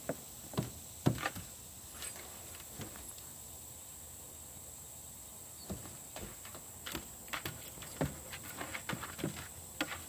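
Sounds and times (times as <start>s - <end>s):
high drone of insects: 0.0s - 10.0s.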